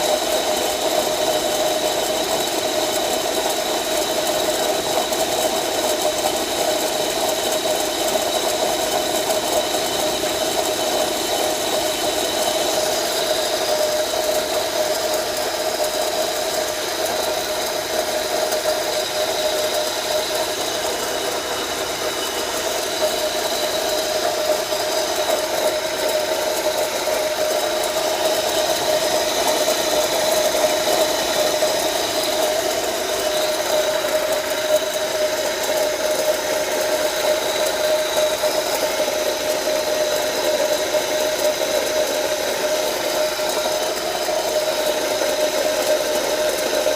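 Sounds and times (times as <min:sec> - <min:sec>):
car engine idling: 0:00.0 - 0:46.9
compressor bearing whine: 0:00.0 - 0:46.9.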